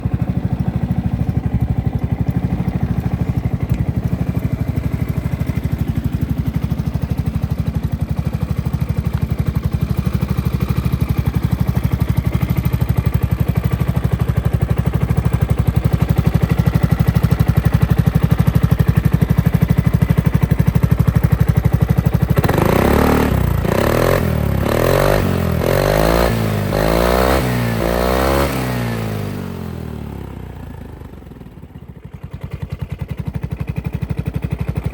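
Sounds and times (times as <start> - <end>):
scooter engine idling and revving: 0.0 - 34.9.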